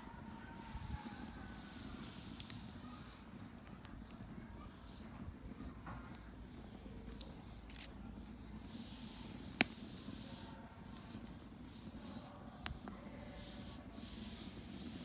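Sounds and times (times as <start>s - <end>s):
campfire crackling: 0.0s - 15.0s
campfire low rumble: 0.0s - 15.0s.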